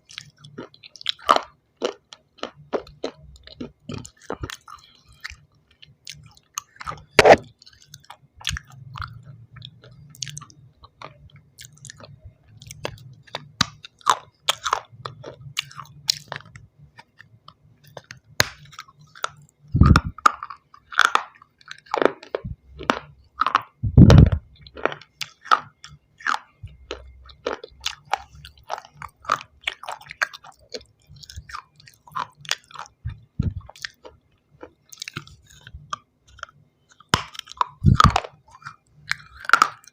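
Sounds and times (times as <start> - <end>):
stone being chewed with crunches: 0.0 - 39.9.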